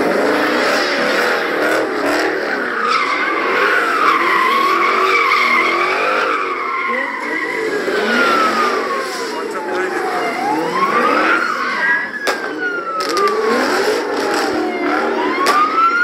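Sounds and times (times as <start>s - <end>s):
car engine revving hard: 0.0s - 16.0s
tires squealing: 0.0s - 16.0s.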